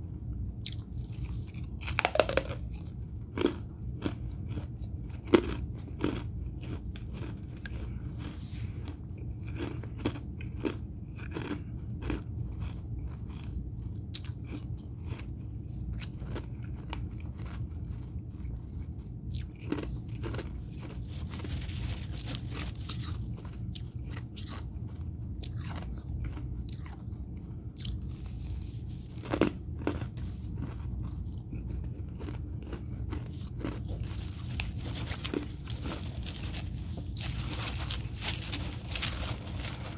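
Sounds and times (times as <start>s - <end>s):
frost crunching when chewed: 0.1s - 39.9s.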